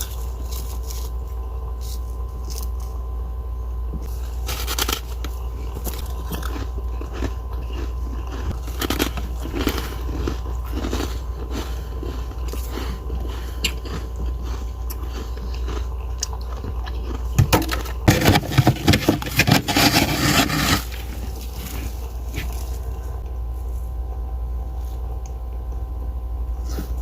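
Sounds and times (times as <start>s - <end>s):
freezer frost crunching: 0.0s - 3.3s, 4.0s - 25.4s
steady low hum: 0.0s - 27.0s.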